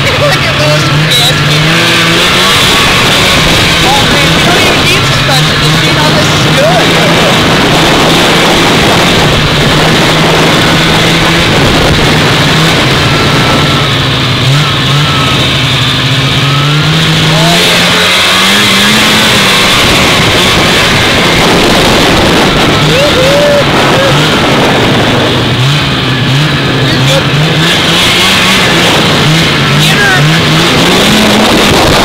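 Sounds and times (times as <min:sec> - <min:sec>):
rush of track and wind: 0:00.0 - 0:32.0
snowmobile engine running: 0:00.0 - 0:32.0.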